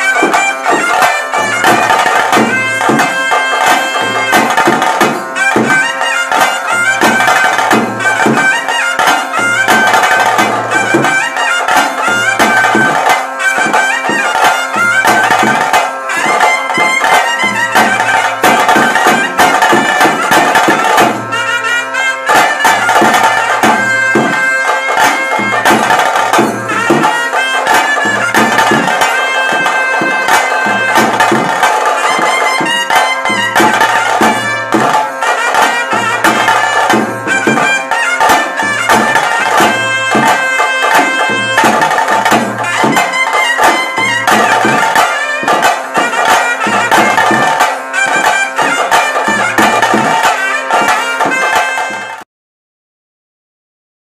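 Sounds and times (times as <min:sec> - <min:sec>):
shrill double-reed pipe melody: 0:00.0 - 0:52.2
steady drumming: 0:00.0 - 0:52.2.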